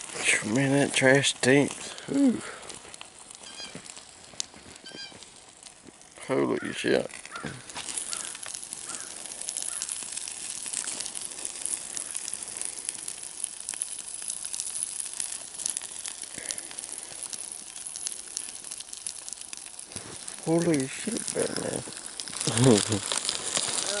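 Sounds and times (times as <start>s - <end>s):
burning trash crackling and hissing: 0.0s - 24.0s.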